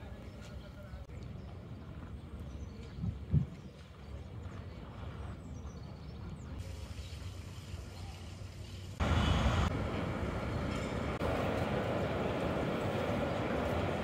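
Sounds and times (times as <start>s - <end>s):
distant crowd murmur: 0.0s - 14.0s.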